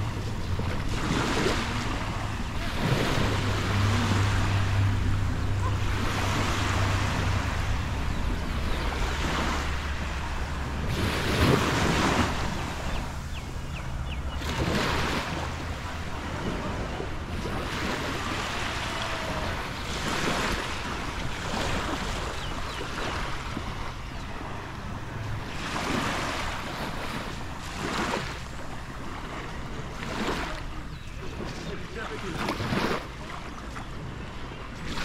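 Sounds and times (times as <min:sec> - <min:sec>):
wind rumbling on microphone: 0:00.0 - 0:31.8
sea waves washing up beach: 0:00.0 - 0:35.0.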